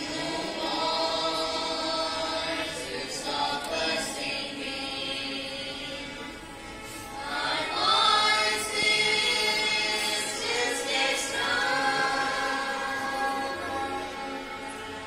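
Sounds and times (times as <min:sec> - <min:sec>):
children singing in chorus: 0:00.0 - 0:06.2, 0:07.1 - 0:15.0.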